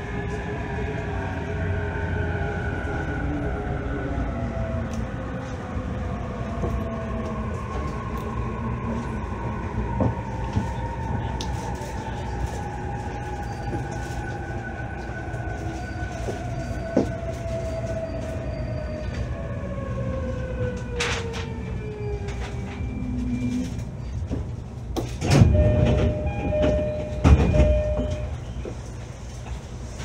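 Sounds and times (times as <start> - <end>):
train interior rumble: 0.0 - 30.0.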